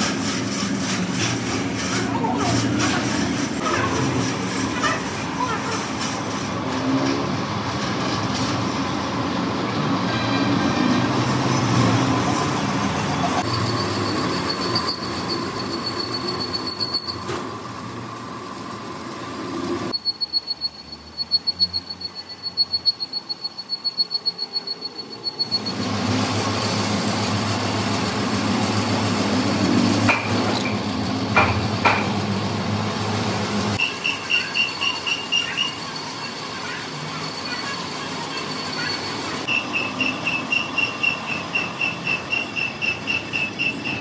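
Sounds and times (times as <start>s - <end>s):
heavy factory machinery din: 0.0s - 19.9s, 25.4s - 44.0s.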